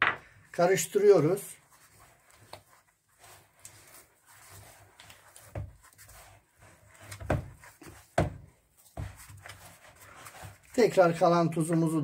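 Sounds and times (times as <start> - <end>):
hand kneading dough: 0.2 - 12.0.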